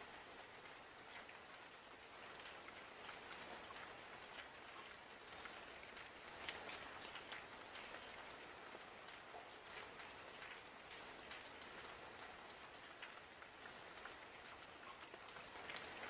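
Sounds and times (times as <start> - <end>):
faint steady rain: 0.0 - 16.0
raindrops ticking: 0.0 - 16.0.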